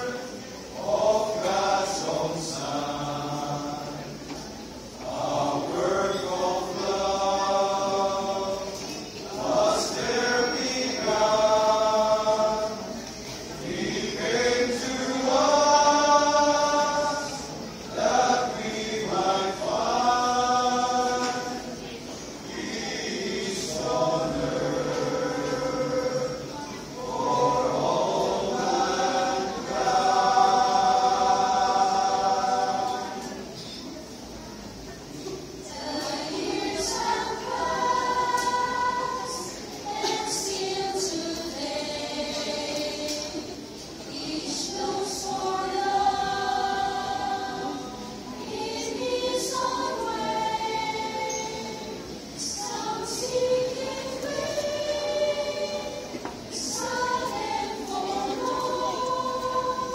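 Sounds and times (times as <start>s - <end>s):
mixed choir singing held chords: 0.0s - 59.9s.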